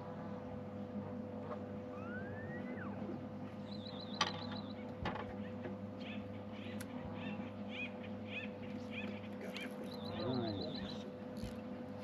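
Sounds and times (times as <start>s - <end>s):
steady low hum: 0.0s - 12.0s
birds chirping: 1.9s - 11.6s.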